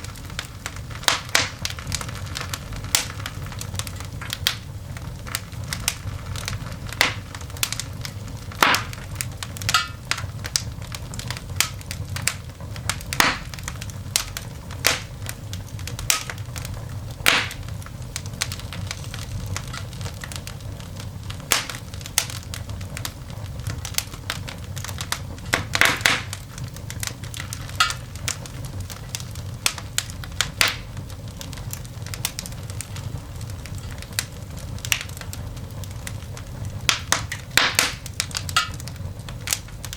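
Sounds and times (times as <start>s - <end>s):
coal fire crackling and popping: 0.0s - 39.9s
steady low rumble: 0.0s - 39.9s.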